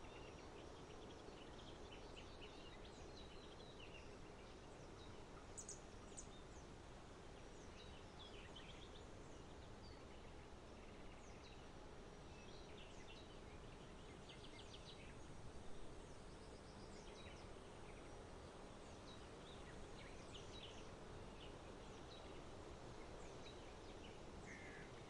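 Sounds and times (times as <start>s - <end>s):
low background hum: 0.0s - 25.0s
songbirds chirping: 0.0s - 25.0s.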